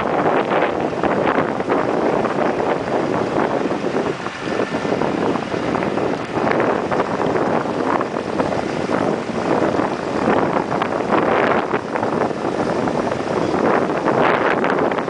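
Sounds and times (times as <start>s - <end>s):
flail mower cutting: 0.0s - 15.0s
tractor engine running: 0.0s - 15.0s
wind buffeting microphone: 0.0s - 15.0s.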